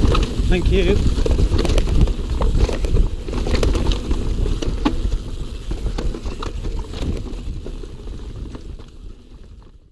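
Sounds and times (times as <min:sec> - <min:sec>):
bike clicks and rattles: 0:00.0 - 0:09.9
bike tyres rumbling over stones: 0:00.0 - 0:09.9.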